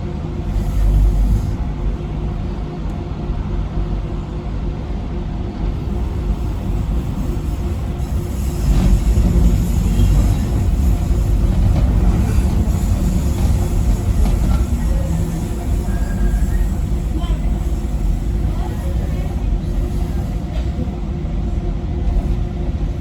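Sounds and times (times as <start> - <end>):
train rattle and hiss: 0.0 - 23.0
train wheels rumbling on rail: 0.0 - 23.0.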